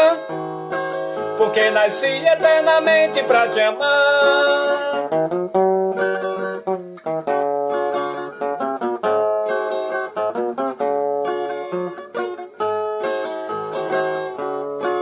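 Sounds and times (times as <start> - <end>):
plucked string instrument melody: 0.0 - 15.0.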